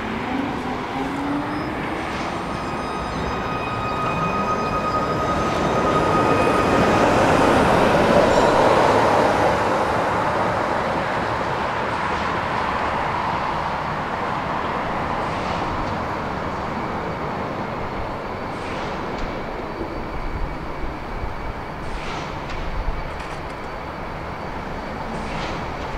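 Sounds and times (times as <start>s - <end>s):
tram running on rails: 0.0s - 25.9s.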